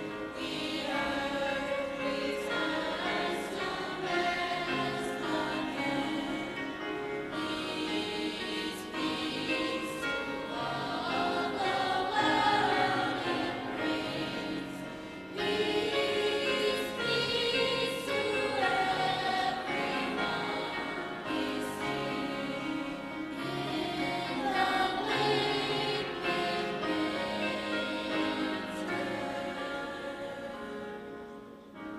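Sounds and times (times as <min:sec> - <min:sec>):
choir singing: 0:00.0 - 0:31.9.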